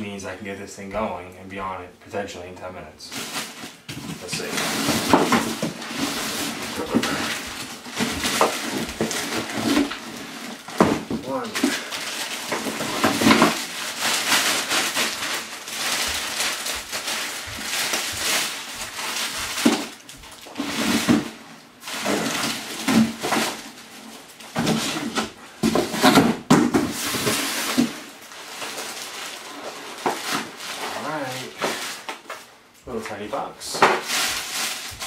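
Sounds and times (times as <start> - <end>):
plastic wrapping crinkling: 3.1 - 35.0.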